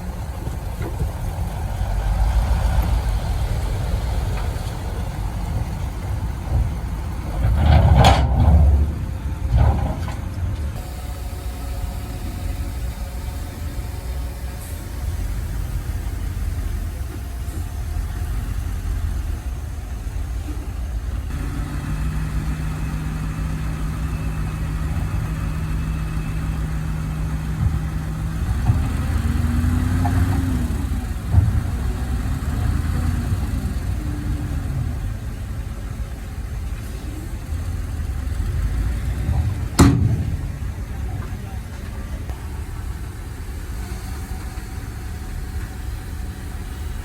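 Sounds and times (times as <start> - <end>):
heavy machinery engine rumbling: 0.0 - 47.0.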